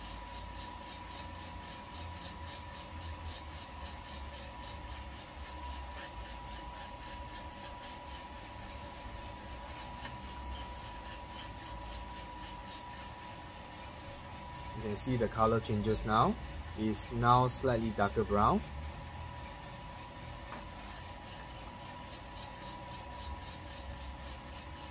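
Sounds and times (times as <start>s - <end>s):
beans rattling in roaster drum: 0.0s - 24.9s
fan whirring: 0.0s - 24.9s
thin steady whine: 0.0s - 24.9s.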